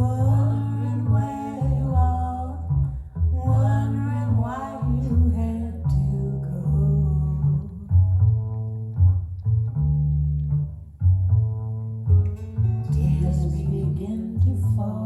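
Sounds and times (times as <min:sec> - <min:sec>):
guitar: 0:00.0 - 0:15.0
plucked double bass: 0:00.0 - 0:15.0.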